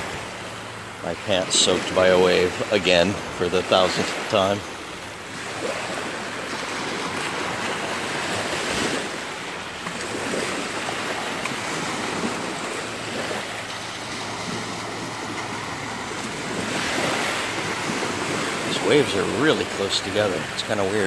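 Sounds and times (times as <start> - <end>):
small waves washing on sand: 0.0 - 21.0.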